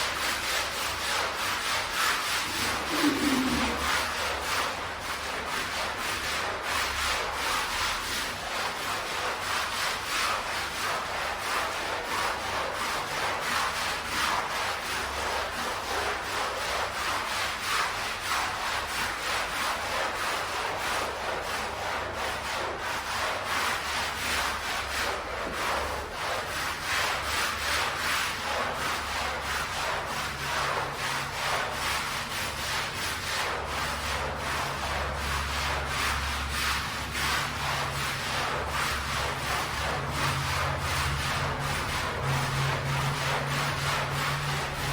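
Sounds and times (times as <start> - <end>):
brush scrubbing wet carpet: 0.0 - 44.9.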